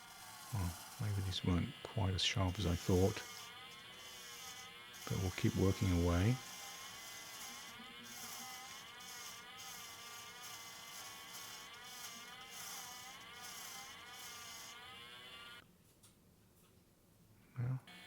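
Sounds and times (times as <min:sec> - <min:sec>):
hiss of tool cutting wood: 0:00.0 - 0:15.6
small electric motor whining: 0:00.0 - 0:15.6.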